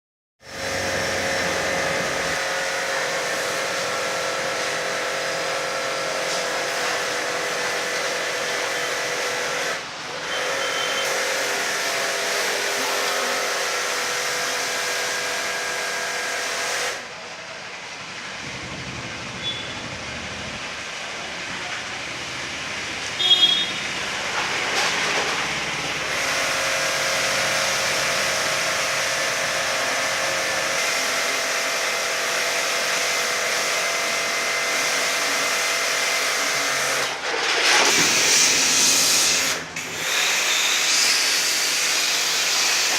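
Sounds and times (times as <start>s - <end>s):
cleaning machine hissing drone: 0.4s - 19.3s, 25.4s - 42.9s.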